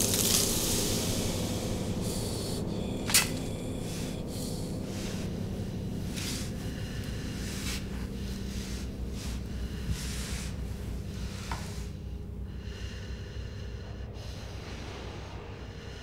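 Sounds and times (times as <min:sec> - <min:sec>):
low steady drone: 0:00.0 - 0:16.0
soft breathy hisses: 0:00.0 - 0:16.0.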